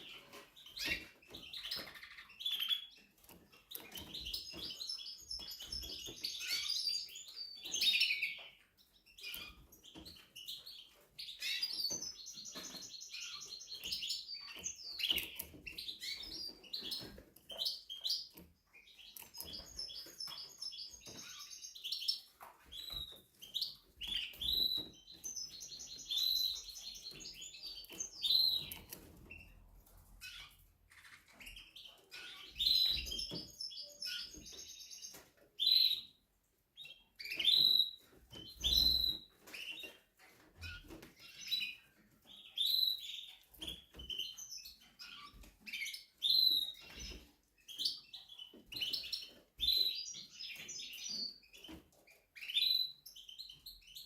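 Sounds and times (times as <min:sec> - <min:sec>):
canary singing trills: 0:00.0 - 0:36.2, 0:36.8 - 0:54.0.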